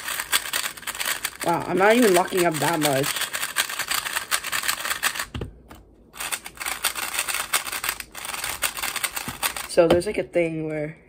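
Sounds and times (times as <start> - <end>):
puzzle cube clicking turns: 0.0 - 9.7.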